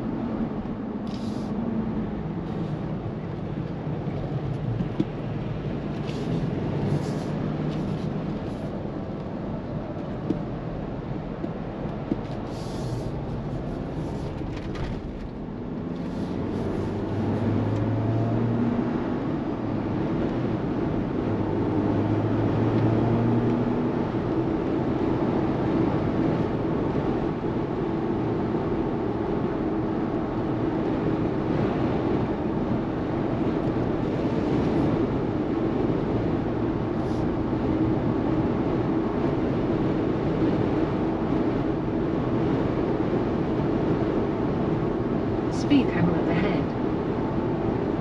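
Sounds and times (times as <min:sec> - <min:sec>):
car engine hum: 0:00.0 - 0:48.0
road and wind noise: 0:00.0 - 0:48.0.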